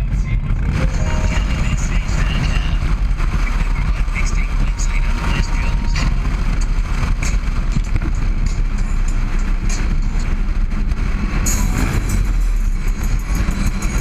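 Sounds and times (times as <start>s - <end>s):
motorcycle engine: 0.0s - 14.0s
wind rumble on microphone: 0.0s - 14.0s.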